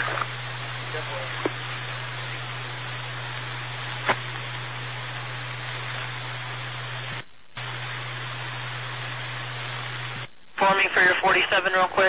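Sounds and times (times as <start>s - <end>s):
radio static hiss: 0.0s - 12.0s
steady low hum: 0.0s - 12.0s.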